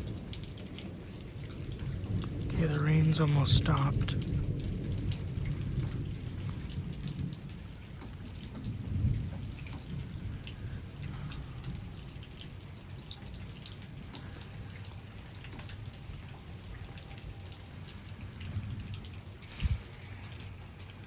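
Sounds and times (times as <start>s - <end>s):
rain drops dripping: 0.0s - 21.0s.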